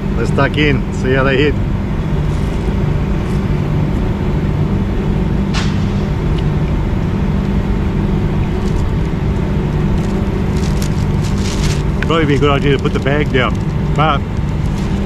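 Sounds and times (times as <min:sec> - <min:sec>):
low hum: 0:00.0 - 0:15.0
low rumble: 0:00.0 - 0:15.0.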